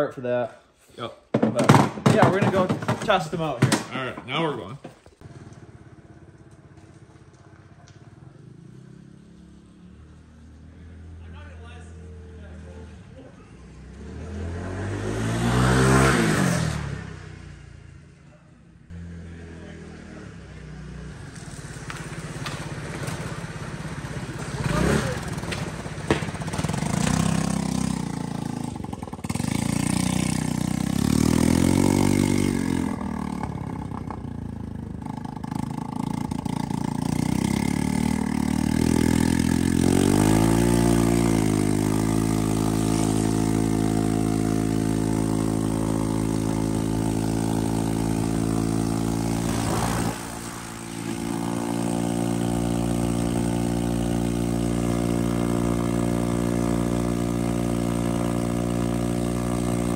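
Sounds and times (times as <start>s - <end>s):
moped engine revving: 1.4s - 11.2s, 12.3s - 18.2s, 18.8s - 59.9s.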